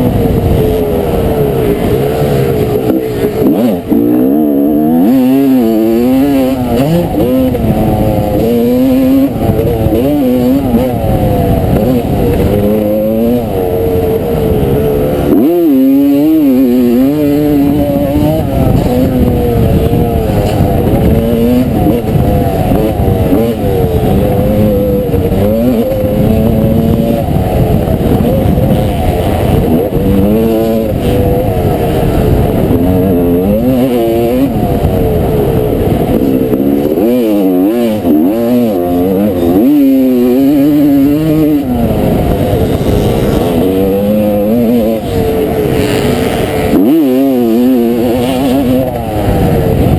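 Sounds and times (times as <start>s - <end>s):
dirt bike engine racing: 0.0s - 49.9s.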